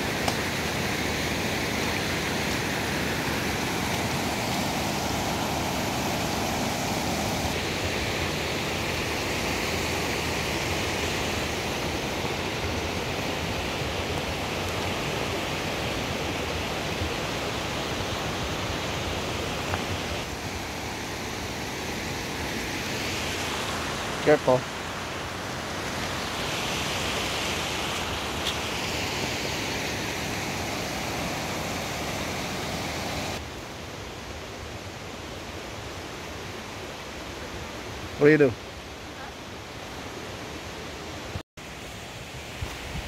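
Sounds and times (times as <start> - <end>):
creek water rushing over rocks: 0.0 - 43.0.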